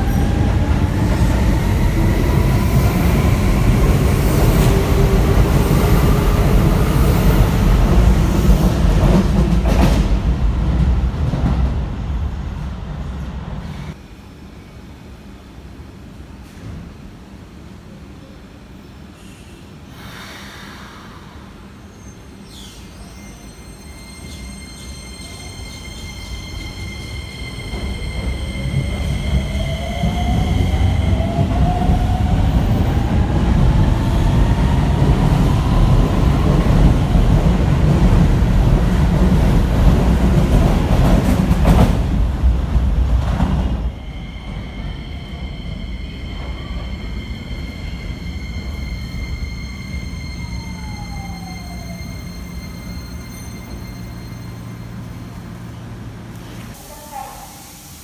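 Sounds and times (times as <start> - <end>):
electric train passing: 0.0 - 16.1, 23.2 - 56.8.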